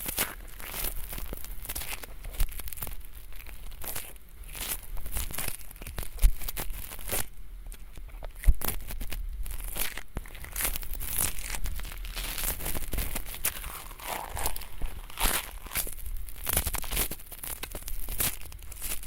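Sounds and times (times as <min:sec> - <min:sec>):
ear pick scraping earwax: 0:00.0 - 0:19.0.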